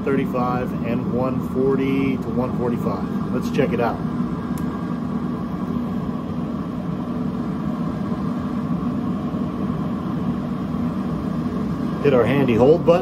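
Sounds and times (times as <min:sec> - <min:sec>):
grill fan droning: 0:00.0 - 0:13.0.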